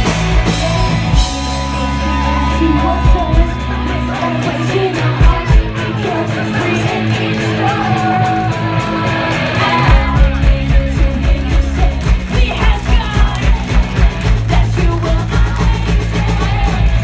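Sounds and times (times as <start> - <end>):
electric guitar chords: 0.0 - 17.0
live band playing loud: 0.0 - 17.0.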